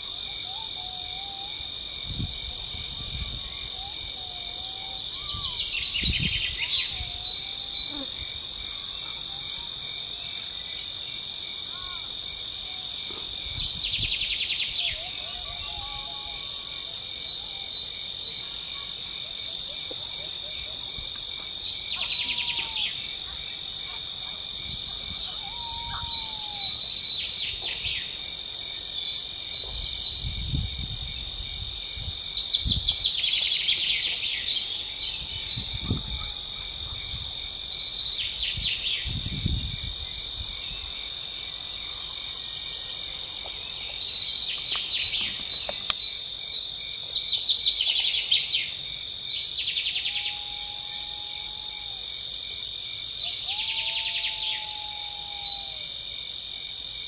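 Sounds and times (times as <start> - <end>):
insects stridulating: 0.0 - 57.0.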